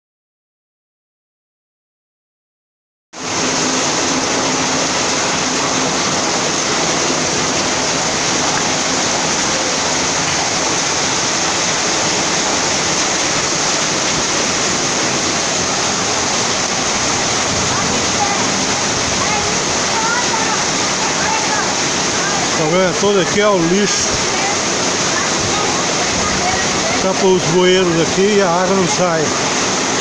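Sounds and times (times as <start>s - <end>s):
heavy rain downpour: 3.2s - 30.0s.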